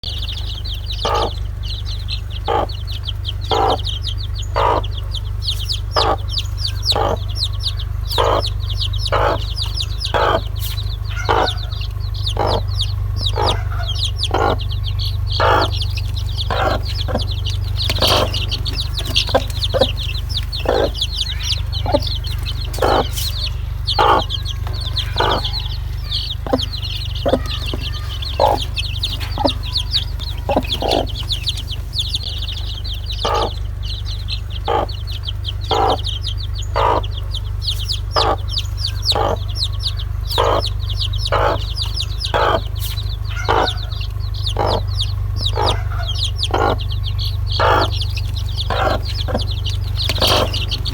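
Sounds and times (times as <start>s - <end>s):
chicks peeping: 0.0s - 50.9s
hen clucking: 0.0s - 50.9s
steady low hum: 0.0s - 50.9s.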